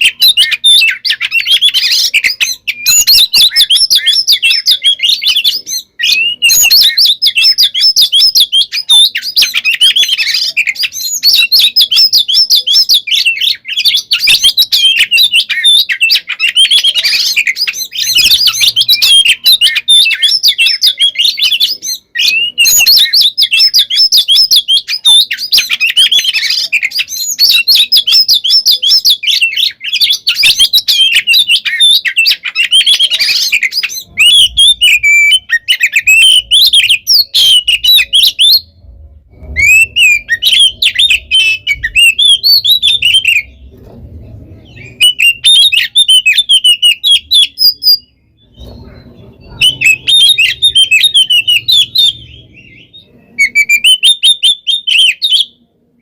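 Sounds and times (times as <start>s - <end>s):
bird singing chirps and whistles: 0.0s - 55.6s.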